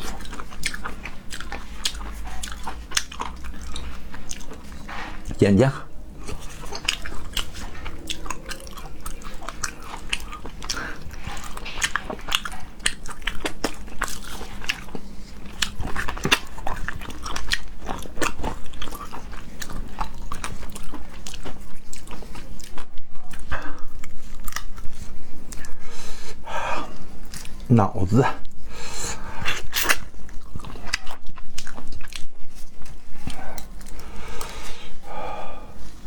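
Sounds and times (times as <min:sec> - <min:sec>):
crunching and chewing: 0:00.0 - 0:27.7, 0:28.4 - 0:36.0.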